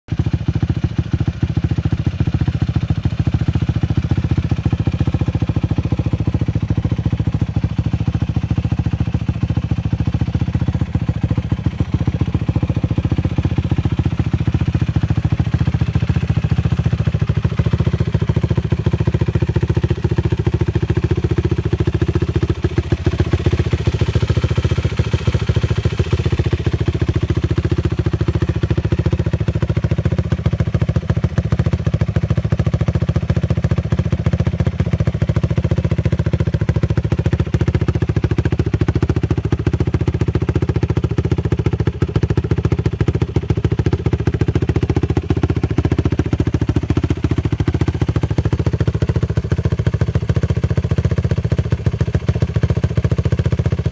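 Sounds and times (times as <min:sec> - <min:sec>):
quad engine idling: 0:00.1 - 0:53.9.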